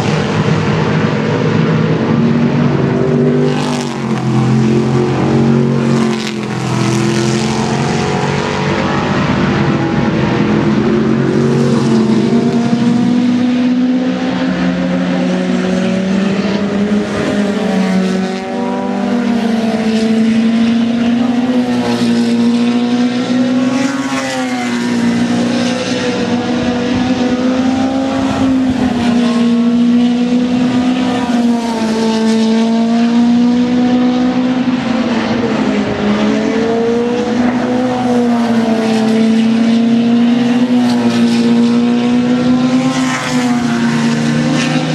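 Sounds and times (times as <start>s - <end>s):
race car engines: 0.0s - 44.9s.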